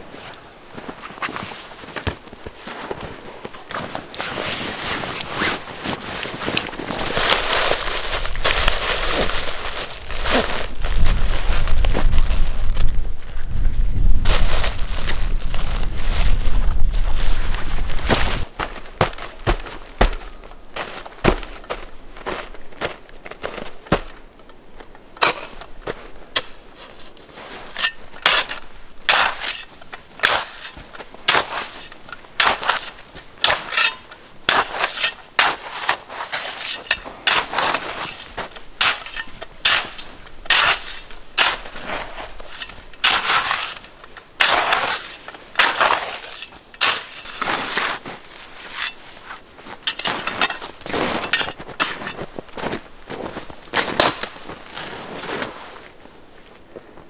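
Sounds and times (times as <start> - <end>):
footsteps crunching in snow: 0.0 - 24.3, 25.2 - 57.0.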